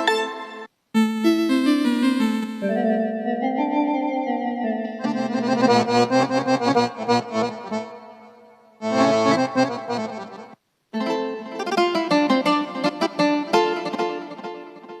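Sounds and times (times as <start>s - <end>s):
keyboard accordion playing: 0.0s - 15.0s.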